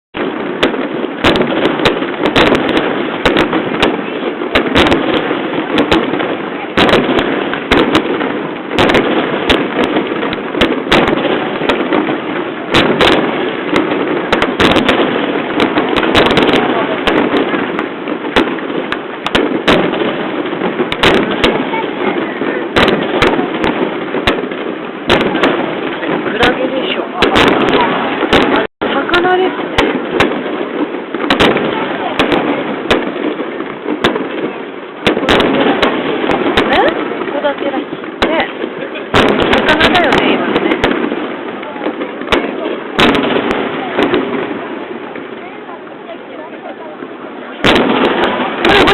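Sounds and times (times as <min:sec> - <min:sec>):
crowd voices: 0:00.2 - 0:48.9
firework shells bursting: 0:00.2 - 0:48.9.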